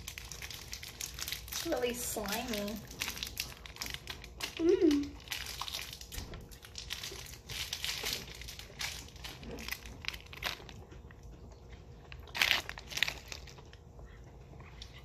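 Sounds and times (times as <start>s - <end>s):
plastic wrappers crinkling: 0.0s - 13.9s.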